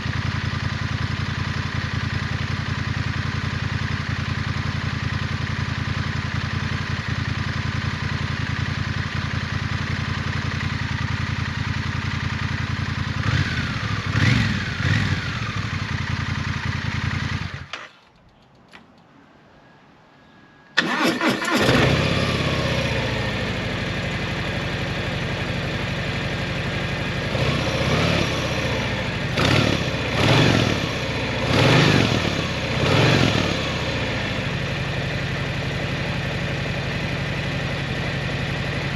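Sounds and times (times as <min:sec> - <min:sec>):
motorcycle engine idling and revving: 0:00.0 - 0:18.1, 0:20.8 - 0:38.9
motorcycle engine starting: 0:00.0 - 0:18.8, 0:20.8 - 0:38.9.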